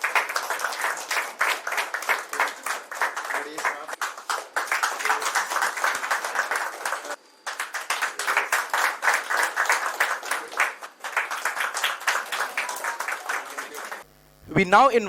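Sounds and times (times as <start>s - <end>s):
audience applause: 0.0s - 14.0s.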